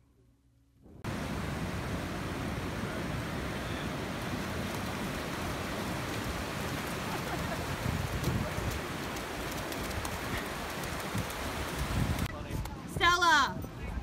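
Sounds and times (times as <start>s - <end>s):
ocean surf breaking: 1.0s - 12.3s.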